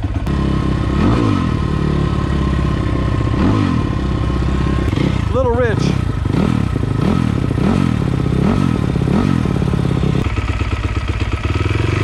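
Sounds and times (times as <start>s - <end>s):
dirt bike engine revving and idling: 0.0s - 12.0s.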